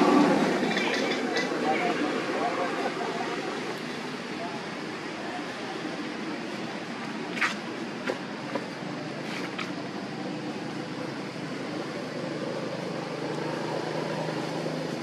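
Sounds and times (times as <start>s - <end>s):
outdoor background noise: 0.0s - 15.0s
vehicle engine humming: 0.0s - 15.0s.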